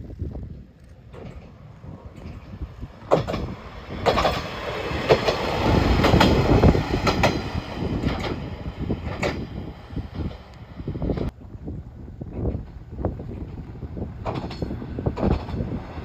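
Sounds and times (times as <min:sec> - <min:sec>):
railcar rumble: 0:00.0 - 0:16.0
train wheels clattering over joints: 0:01.0 - 0:10.5, 0:12.3 - 0:16.0.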